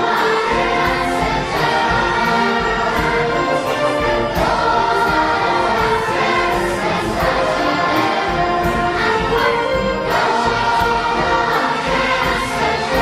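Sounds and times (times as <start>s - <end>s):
children's choir singing: 0.0s - 13.0s
orchestra playing: 0.0s - 13.0s.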